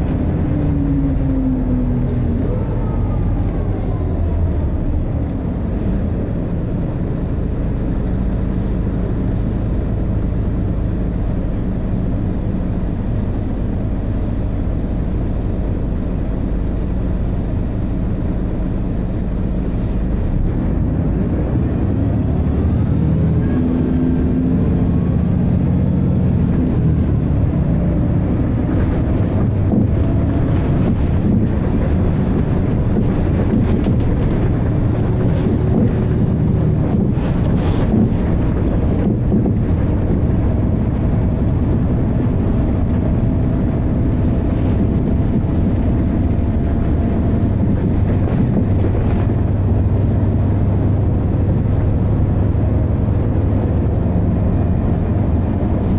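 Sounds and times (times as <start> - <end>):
diesel bus engine pulling hard: 0.0 - 55.9.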